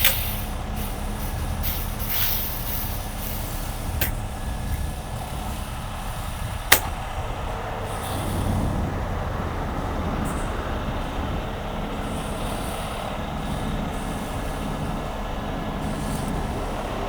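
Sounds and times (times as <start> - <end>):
constant rushing noise: 0.0 - 17.0
diesel truck engine running: 0.0 - 17.0.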